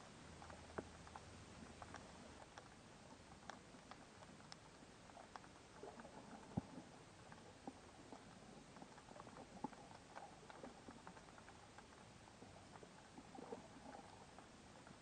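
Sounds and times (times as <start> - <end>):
low hiss: 0.0 - 15.0
underwater crackle: 0.0 - 15.0.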